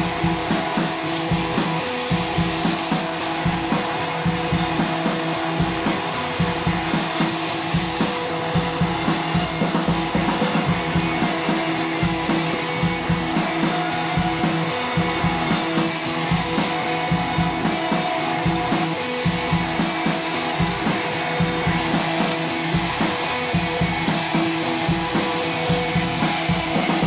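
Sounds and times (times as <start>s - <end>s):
music with drums and guitar: 0.0s - 27.0s.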